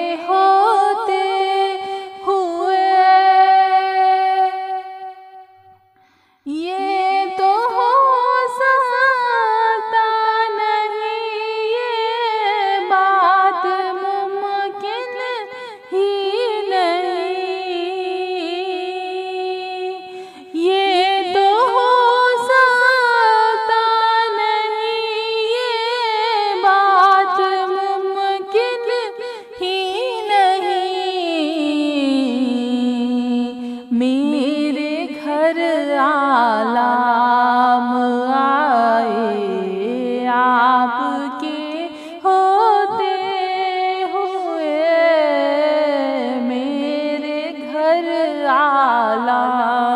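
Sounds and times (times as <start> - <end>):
woman singing unaccompanied: 0.0 - 5.5, 6.5 - 49.9.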